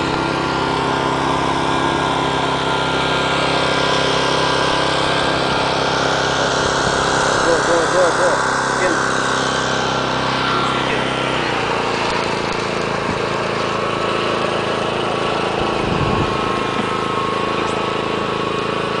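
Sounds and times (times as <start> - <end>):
small engine humming: 0.0 - 19.0.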